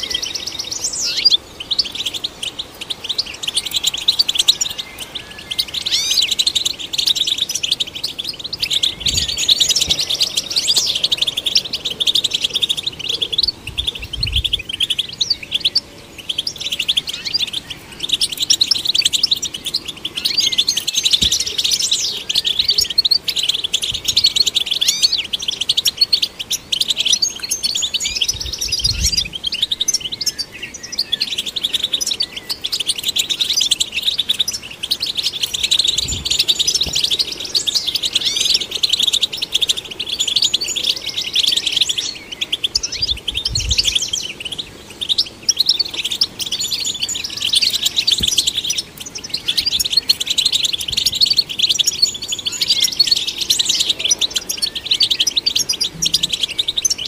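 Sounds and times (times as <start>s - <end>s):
bird twittering song: 0.0s - 57.0s.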